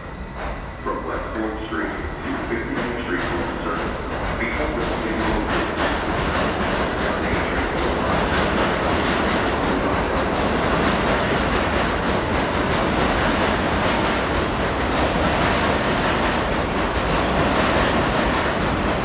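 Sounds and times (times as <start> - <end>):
subway train rumbling past: 0.0 - 19.0.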